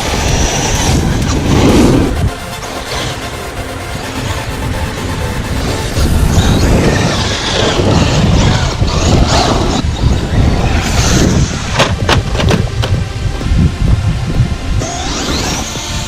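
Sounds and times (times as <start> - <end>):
rc truck driving over rough ground: 0.0 - 16.0.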